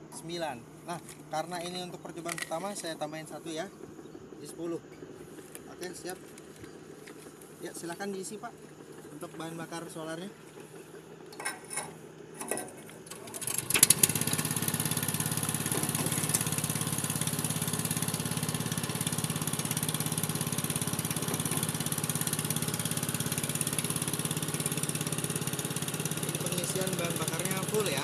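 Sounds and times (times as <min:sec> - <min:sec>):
small pump engine running: 0:00.0 - 0:28.0.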